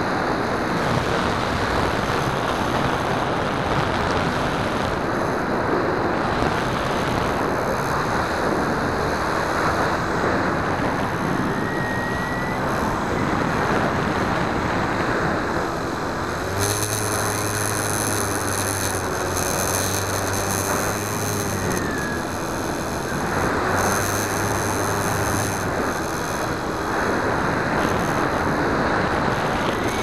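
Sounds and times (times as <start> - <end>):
electric motor whine: 0.0 - 30.0
wind rushing over microphone: 0.0 - 30.0.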